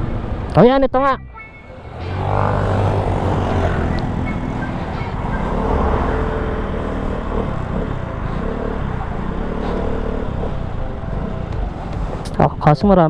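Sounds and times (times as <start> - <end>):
street traffic: 0.0 - 13.0
vehicle engine running: 1.4 - 12.8.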